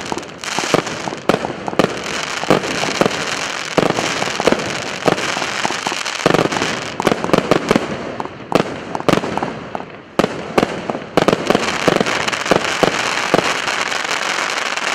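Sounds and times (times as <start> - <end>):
fireworks crackling hiss: 0.0 - 9.8, 10.5 - 14.9
fireworks sharp bangs: 0.0 - 14.9.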